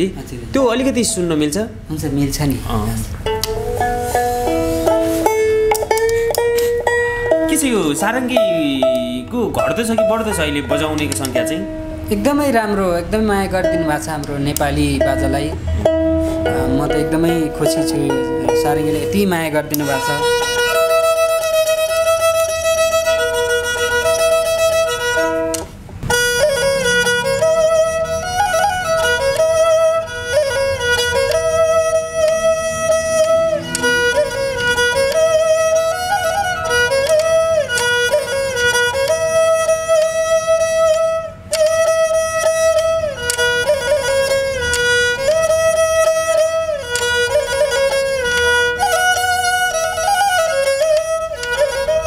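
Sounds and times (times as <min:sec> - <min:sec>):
bowed fiddle melody: 0:00.0 - 0:52.0
open string drone: 0:03.3 - 0:52.0.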